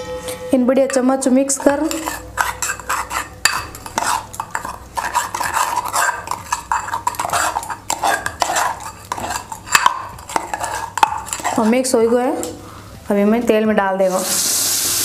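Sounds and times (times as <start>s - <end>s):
spoon stirring in steel bowl: 0.1s - 12.6s.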